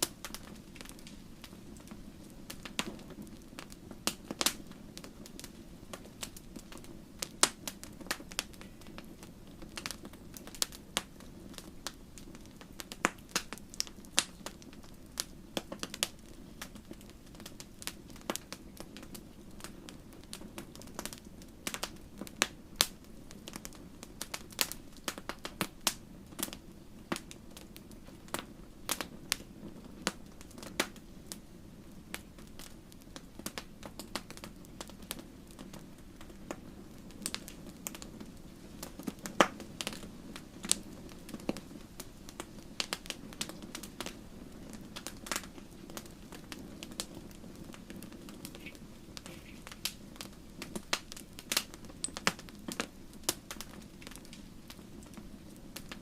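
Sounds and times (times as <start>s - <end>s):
low rumble of burning: 0.0s - 56.0s
wood fire crackling: 0.0s - 56.0s.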